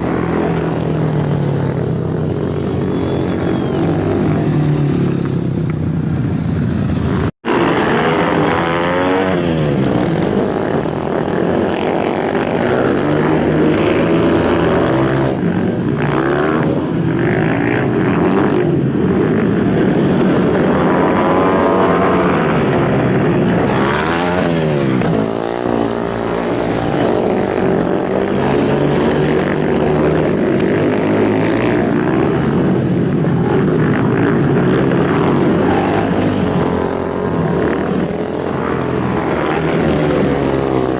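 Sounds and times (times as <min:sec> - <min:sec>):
racing motorbikes passing at high revs: 0:00.0 - 0:40.9.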